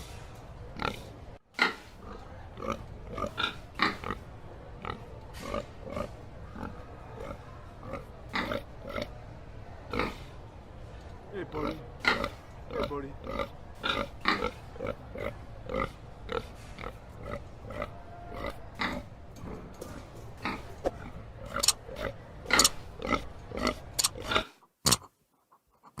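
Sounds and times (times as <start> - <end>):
pig grunting: 0.8 - 9.2, 9.9 - 10.4, 11.4 - 25.0.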